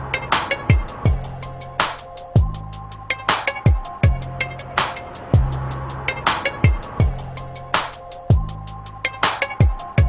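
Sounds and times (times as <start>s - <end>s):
hip-hop instrumental beat: 0.0s - 10.0s.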